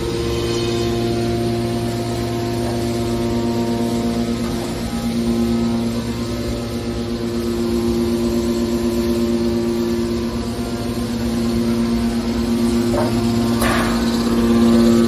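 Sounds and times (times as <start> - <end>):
hydraulic baler droning hum: 0.0 - 15.0.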